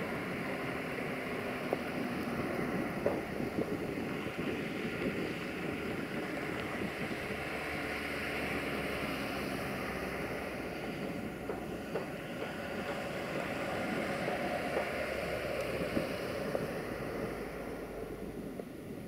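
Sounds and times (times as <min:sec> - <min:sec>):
distant diesel locomotive rumble: 0:00.0 - 0:19.0
wind noise on microphone: 0:00.0 - 0:19.0.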